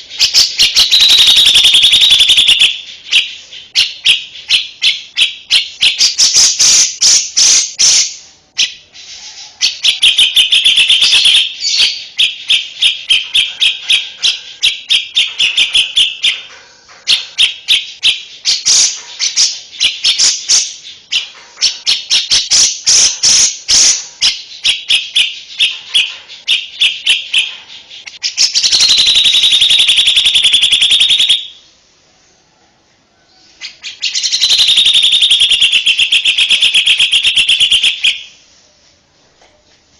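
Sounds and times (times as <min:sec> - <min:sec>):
buzzy bird trill: 0:00.0 - 0:31.7, 0:33.4 - 0:38.4
songbird chirping: 0:00.0 - 0:39.8.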